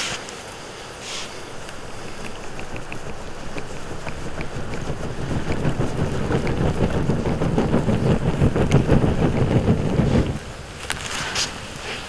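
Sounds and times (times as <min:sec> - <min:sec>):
fire crackling pops: 0:00.0 - 0:12.0
rushing rumble of flames: 0:00.3 - 0:12.0.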